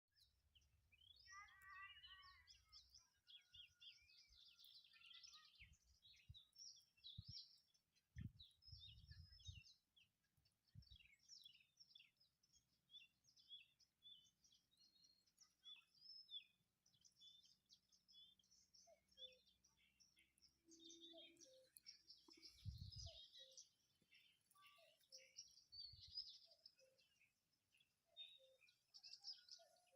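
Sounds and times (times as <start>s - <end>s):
songbirds chirping: 0.0s - 29.9s.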